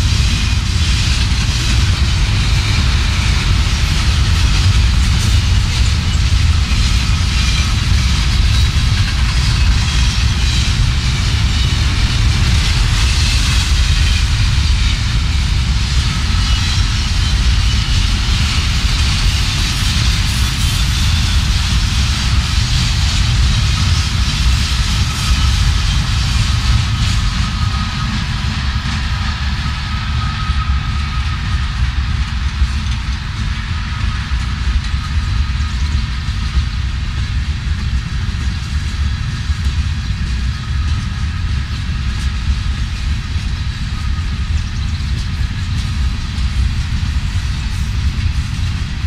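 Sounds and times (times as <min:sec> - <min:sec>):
freight train rumbling past: 0:00.0 - 0:49.0.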